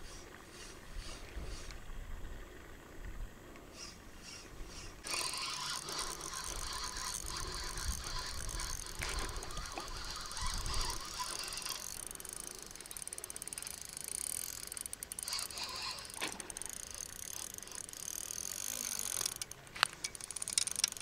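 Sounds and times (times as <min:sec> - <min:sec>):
fishing reel gears ticking: 0:03.7 - 0:21.0.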